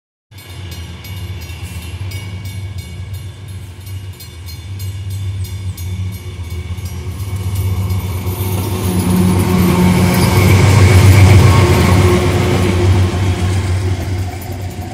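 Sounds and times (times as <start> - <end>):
diesel locomotive engines droning: 0.3 - 14.9.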